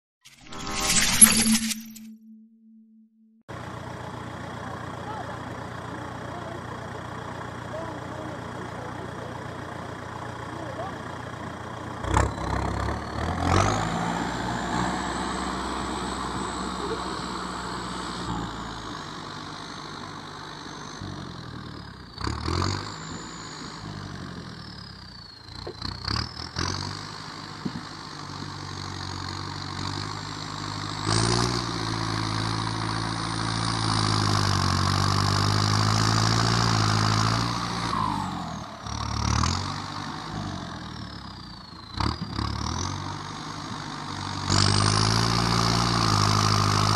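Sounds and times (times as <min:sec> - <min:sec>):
tractor diesel engine revving: 0:03.5 - 0:46.9.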